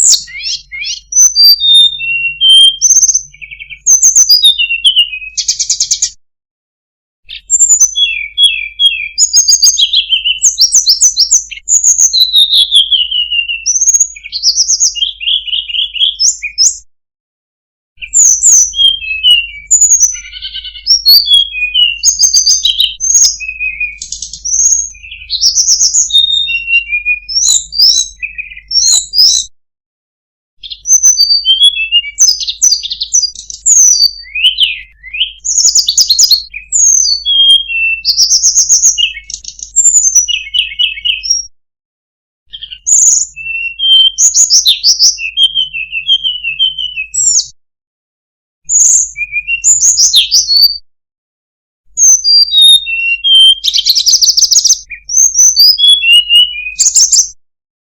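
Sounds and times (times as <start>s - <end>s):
songbird singing whistled notes: 0.0s - 6.2s, 7.2s - 16.9s, 18.0s - 29.5s, 30.6s - 41.5s, 42.5s - 47.6s, 48.7s - 50.8s, 52.0s - 57.4s.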